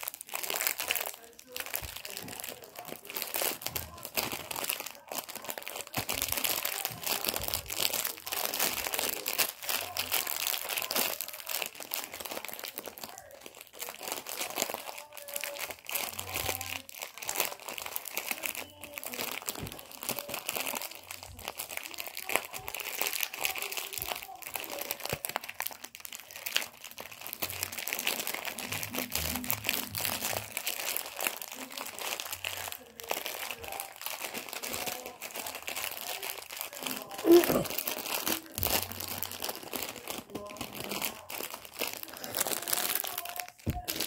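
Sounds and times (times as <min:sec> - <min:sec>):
crinkling and rustling: 0:00.0 - 0:44.0.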